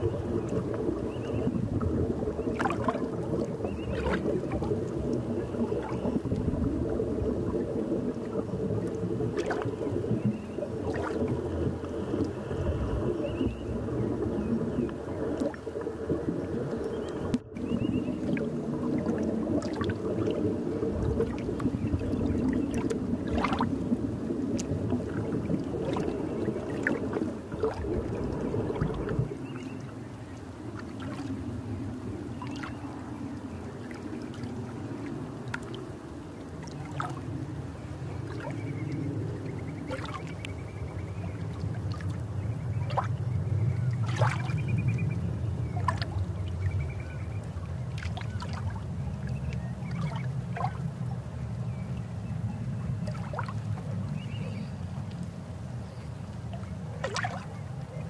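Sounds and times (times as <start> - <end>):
underwater rush of water: 0.0 - 58.0.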